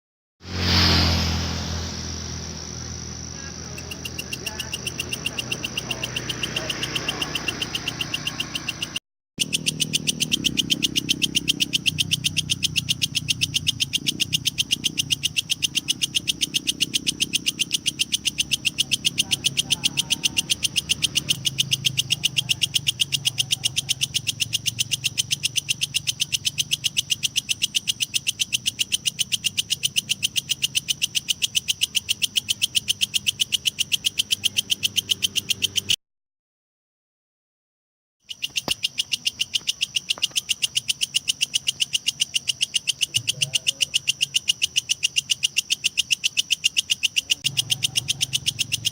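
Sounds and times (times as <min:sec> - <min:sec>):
bush cricket clicking pulses: 0:01.8 - 0:36.0, 0:38.2 - 0:48.9.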